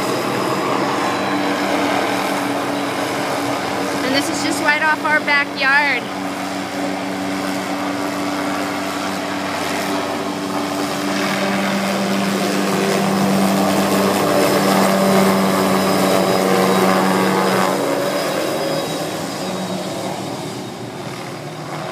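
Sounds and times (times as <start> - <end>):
helicopter flying over: 0.0 - 21.9.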